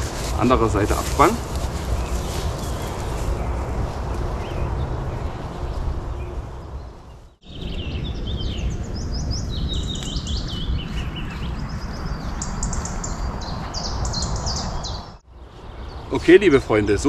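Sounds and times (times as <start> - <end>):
low rumbling noise: 0.0 - 17.0
songbirds chirping: 0.0 - 17.0.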